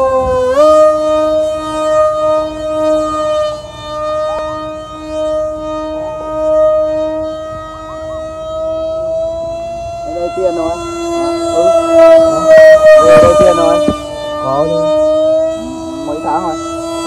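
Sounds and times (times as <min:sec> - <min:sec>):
model jet motor whine: 0:00.0 - 0:17.0.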